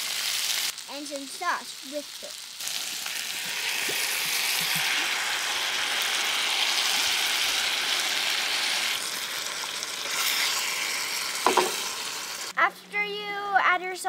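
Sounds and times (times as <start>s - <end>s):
meat and peppers sizzling in skillet: 0.0s - 12.6s.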